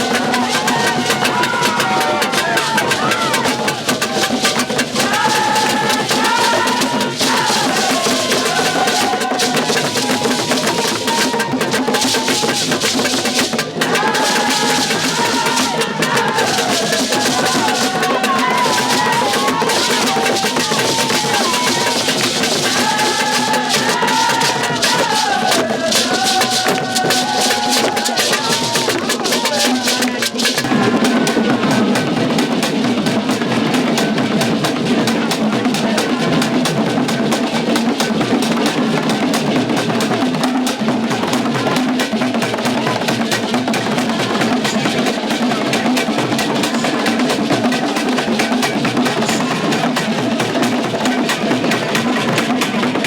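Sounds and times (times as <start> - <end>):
rapid drumming: 0.0 - 53.0.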